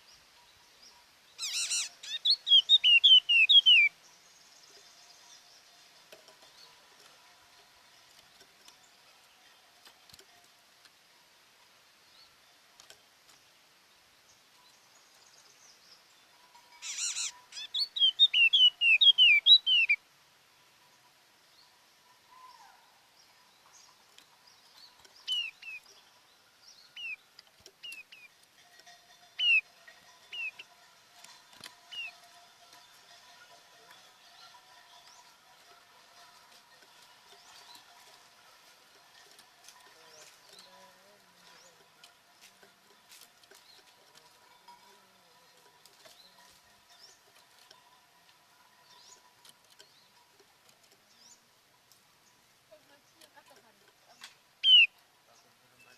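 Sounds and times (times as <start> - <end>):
bird chirping: 0.0 - 10.5, 11.9 - 55.9.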